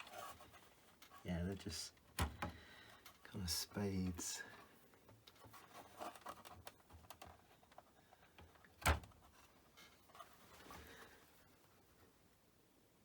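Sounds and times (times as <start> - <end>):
hands clicking and rustling wiring: 0.0 - 11.4.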